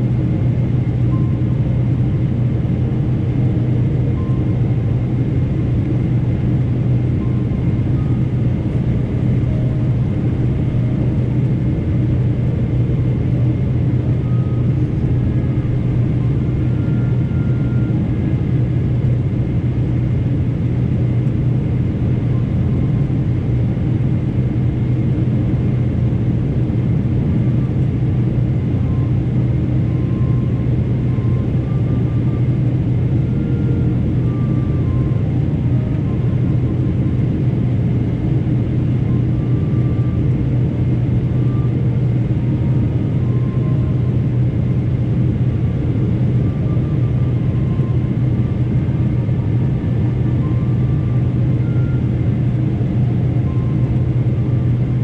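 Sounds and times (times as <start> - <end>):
jet engines humming: 0.0 - 55.0.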